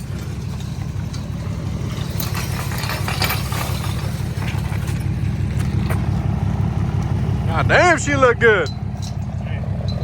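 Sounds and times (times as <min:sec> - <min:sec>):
car engine deep pulsing rumble: 0:00.0 - 0:10.0.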